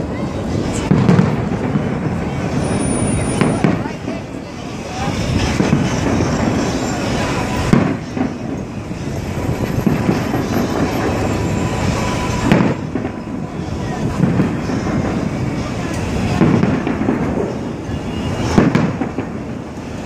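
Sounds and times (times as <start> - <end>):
fireworks booming and crackling: 0.0 - 20.0
sharp firework bangs: 0.7 - 4.3, 5.0 - 20.0.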